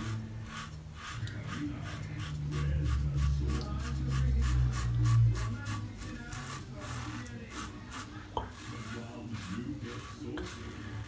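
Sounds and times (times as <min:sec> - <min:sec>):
razor scraping stubble: 0:00.0 - 0:11.0.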